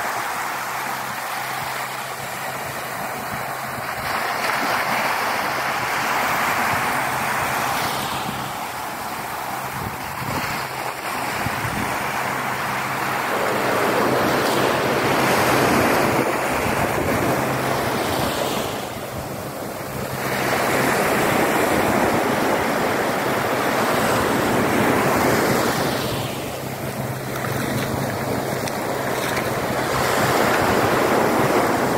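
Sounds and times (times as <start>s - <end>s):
sea waves washing onto shore: 0.0s - 31.9s.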